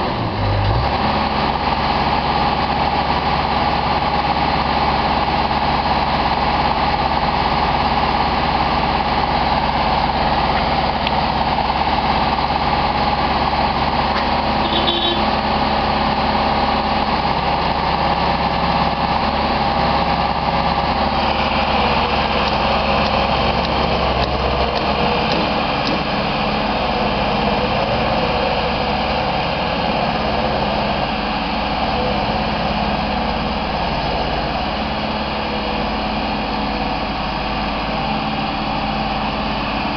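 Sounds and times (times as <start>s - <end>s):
boom lift engine running: 0.0s - 39.9s.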